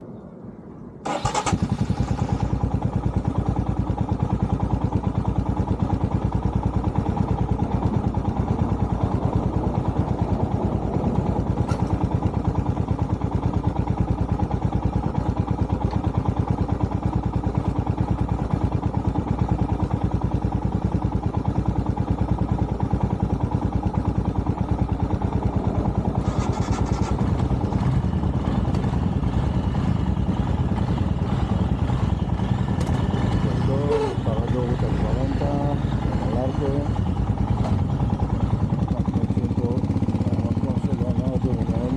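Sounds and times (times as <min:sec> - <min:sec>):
motorcycle engine running: 0:01.1 - 0:41.9.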